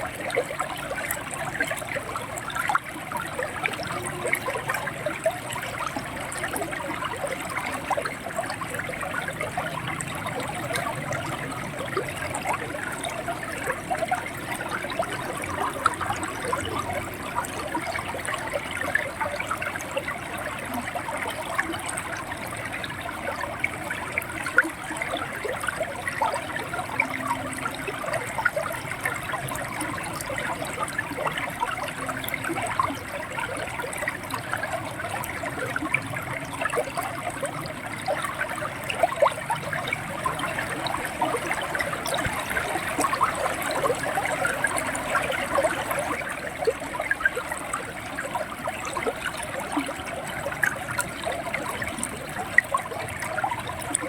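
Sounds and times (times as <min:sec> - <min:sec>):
river water flowing and gurgling: 0:00.0 - 0:54.0
water splashing and bubbling: 0:00.0 - 0:54.0.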